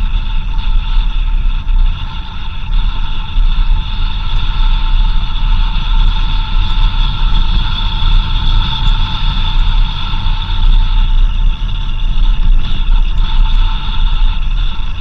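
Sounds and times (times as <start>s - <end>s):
high whine: 0.0s - 15.0s
vehicle engine rumble: 0.0s - 15.0s.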